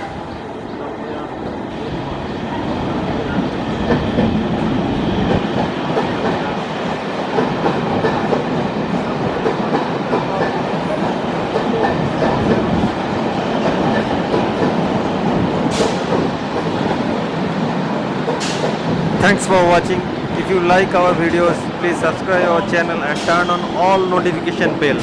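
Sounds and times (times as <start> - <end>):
train wheels clattering over rails: 2.7 - 19.4, 20.2 - 25.0.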